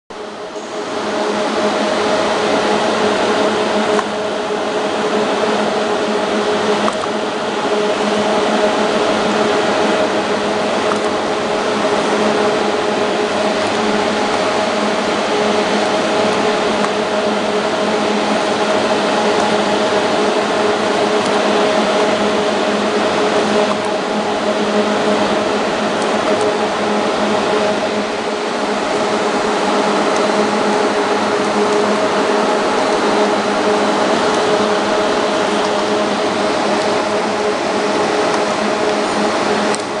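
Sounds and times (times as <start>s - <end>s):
machine hum: 0.1s - 40.0s.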